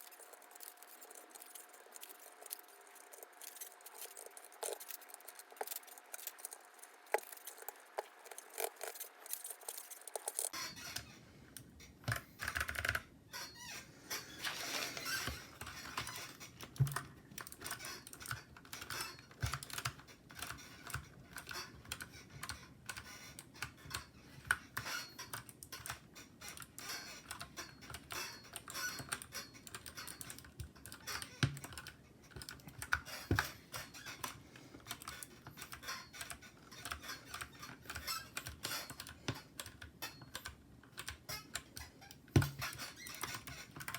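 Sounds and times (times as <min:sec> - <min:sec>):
mechanical keyboard typing: 0:00.0 - 0:10.6, 0:12.1 - 0:13.0, 0:15.6 - 0:33.1, 0:34.2 - 0:43.9.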